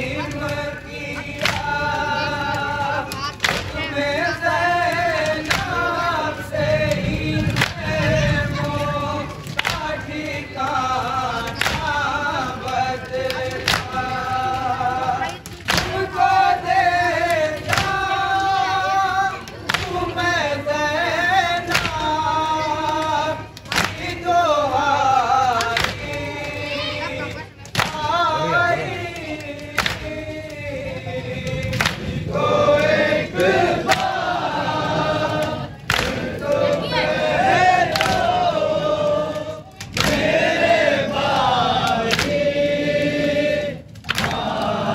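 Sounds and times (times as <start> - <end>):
men chanting a lament in unison: 0.0 - 44.9.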